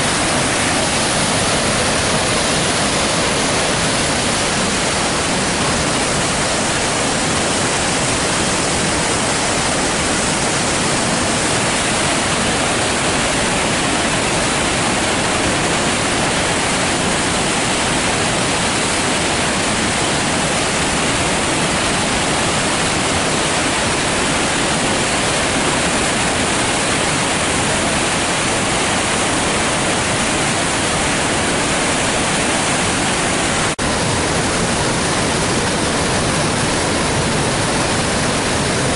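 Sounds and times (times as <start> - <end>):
whitewater rapids rushing: 0.0 - 38.9.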